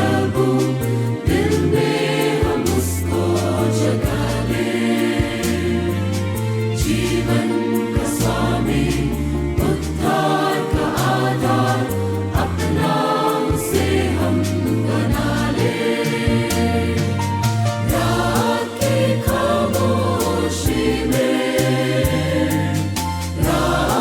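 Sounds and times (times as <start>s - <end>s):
choir singing a carol: 0.0s - 24.0s
percussion strikes: 0.0s - 24.0s
sustained bass notes: 0.0s - 24.0s.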